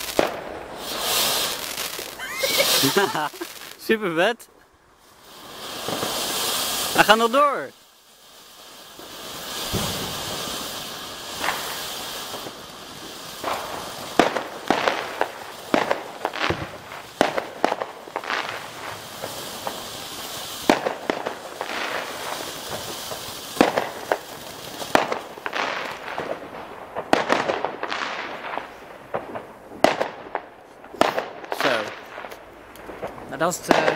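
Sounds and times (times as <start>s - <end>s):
firework crackling pops: 0.0s - 33.9s
firework sparks hissing: 0.0s - 33.9s.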